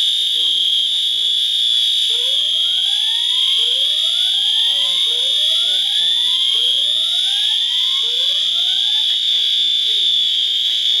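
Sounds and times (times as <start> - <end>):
steady high-pitched alarm tone: 0.0 - 11.0.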